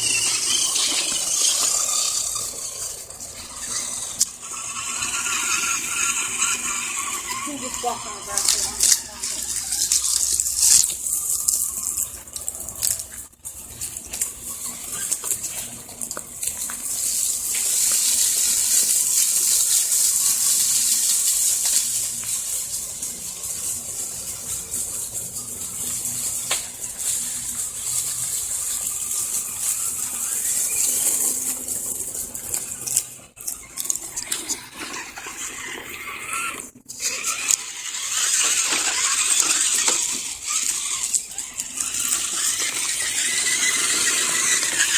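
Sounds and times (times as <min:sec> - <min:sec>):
electric motor and gears whirring: 0:00.0 - 0:44.9
grass rushing against tyres: 0:00.0 - 0:44.9.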